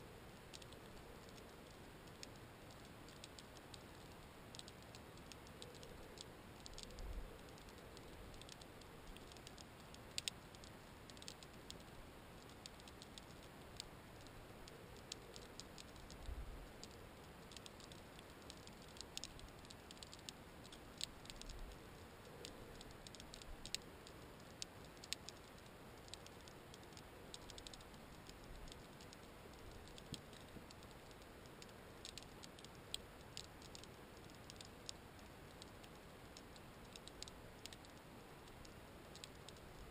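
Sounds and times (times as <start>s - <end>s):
underwater clicks and ticks: 0.2s - 39.9s.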